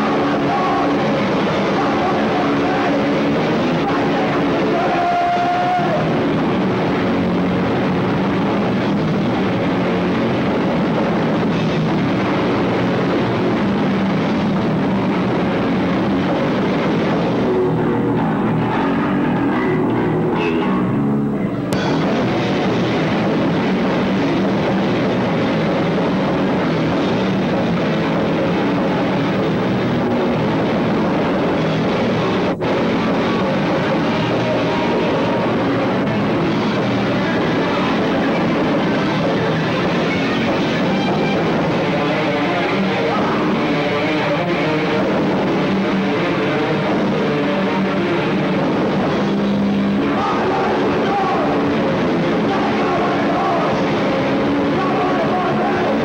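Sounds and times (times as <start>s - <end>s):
drums: 0.0s - 56.0s
electric guitar: 0.0s - 56.0s.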